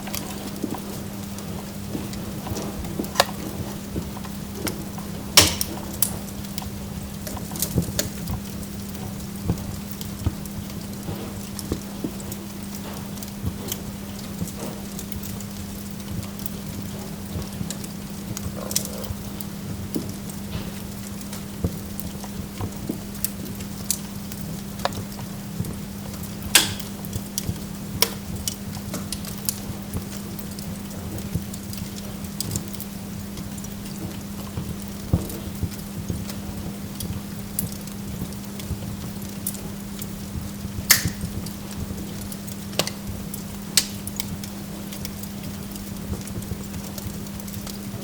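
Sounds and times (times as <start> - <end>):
burning logs crackling: 0.0 - 48.0
steady low hum: 0.0 - 48.0
sharp pops of fire: 0.1 - 19.0, 19.6 - 48.0.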